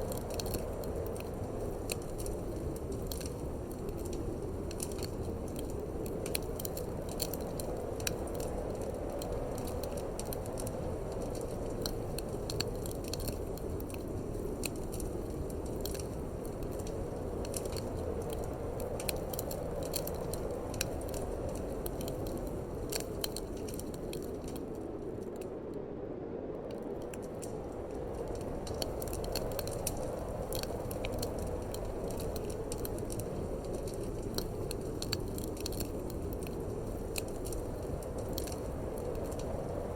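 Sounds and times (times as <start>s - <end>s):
wood fire crackling: 0.0s - 25.9s, 26.5s - 39.9s.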